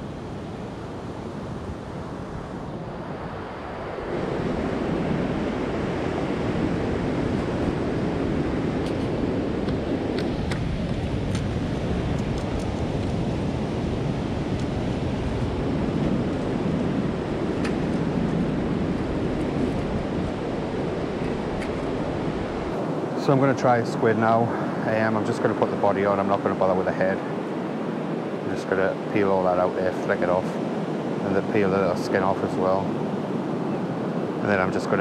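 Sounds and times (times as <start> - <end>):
sea surf breaking on beach: 0.0 - 35.0.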